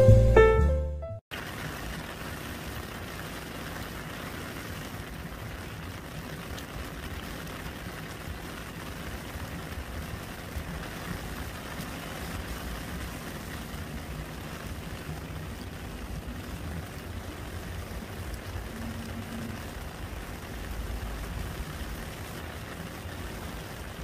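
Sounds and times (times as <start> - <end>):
rain falling into a puddle: 1.3 - 24.0.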